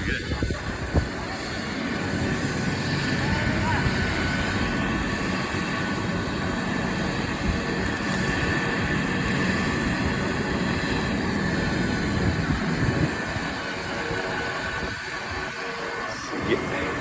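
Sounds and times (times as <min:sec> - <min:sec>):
helicopter rotor rumble: 0:00.0 - 0:17.0
thin high whine: 0:00.0 - 0:17.0.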